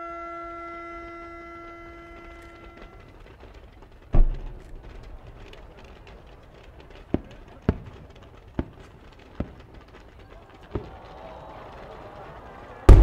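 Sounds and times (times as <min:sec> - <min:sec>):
sharp firework cracks: 0:01.4 - 0:13.0
deep firework boom: 0:02.1 - 0:13.0.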